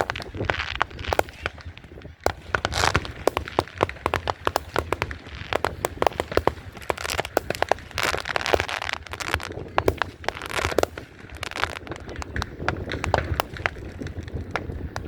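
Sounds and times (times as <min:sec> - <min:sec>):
fireworks crackling: 0:00.0 - 0:15.0
fireworks popping and banging: 0:00.0 - 0:15.0.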